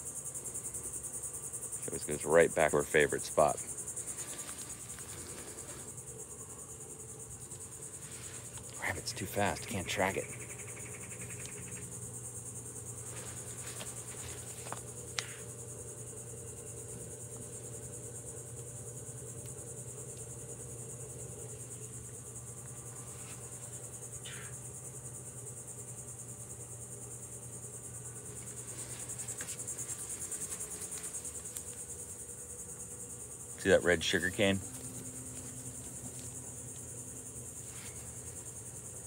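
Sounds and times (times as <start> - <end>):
insects trilling: 0.0 - 39.0.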